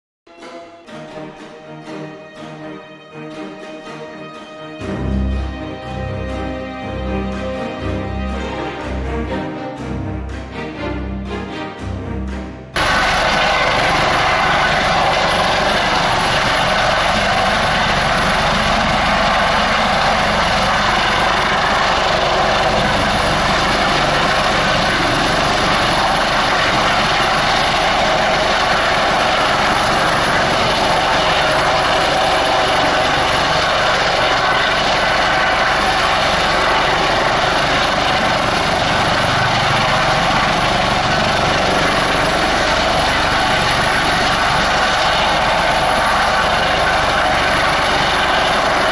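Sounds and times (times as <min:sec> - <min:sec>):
helicopter hovering: 0:00.3 - 0:48.9
tonal turbine whine: 0:00.4 - 0:48.9.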